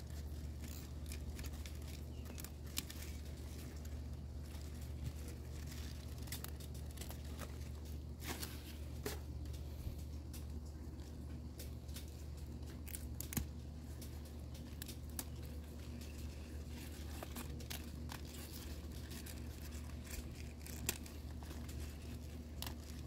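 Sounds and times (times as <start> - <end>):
leaf stems snapping: 0.0 - 23.0
leaves rustling: 0.0 - 23.0
steady low hum: 0.0 - 23.0.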